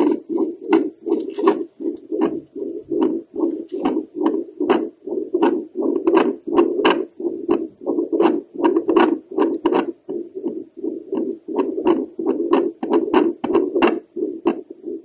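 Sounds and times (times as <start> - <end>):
doppler heartbeat whooshes: 0.0 - 15.0.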